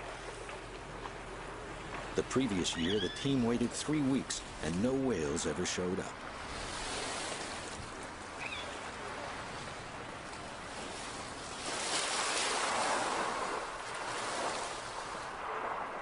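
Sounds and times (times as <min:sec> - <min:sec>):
surf hissing in shallows: 0:01.2 - 0:16.0.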